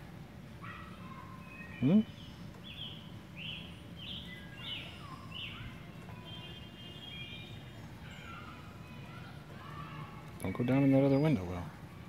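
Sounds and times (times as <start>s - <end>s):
low outdoor background noise: 0.0s - 12.0s
songbirds chirping and whistling: 0.1s - 12.0s.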